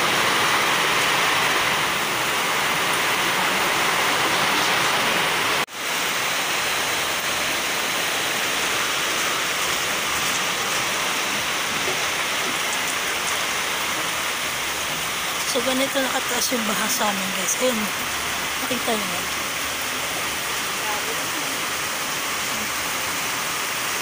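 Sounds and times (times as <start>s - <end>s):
heavy rain: 0.0s - 24.0s
water pouring off roof gutter: 0.0s - 24.0s.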